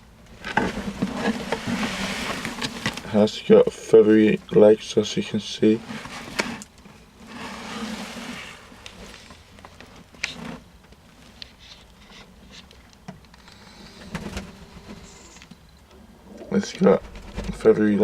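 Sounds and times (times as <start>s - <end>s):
rustling and handling noise: 0.1s - 18.0s.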